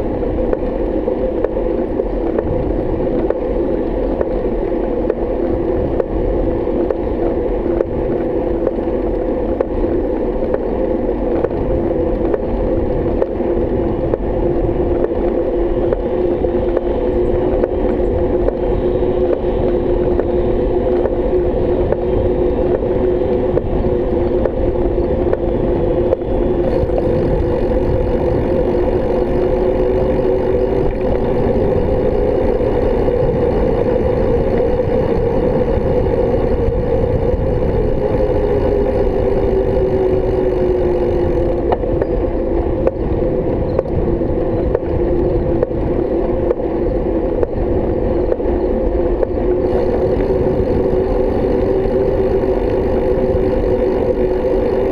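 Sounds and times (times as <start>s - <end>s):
droning hum: 0.0s - 54.9s
road and wind rumble: 0.0s - 54.9s.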